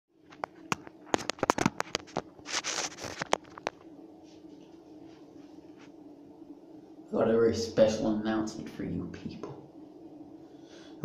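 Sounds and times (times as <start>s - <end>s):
faint low hum: 0.1s - 11.0s.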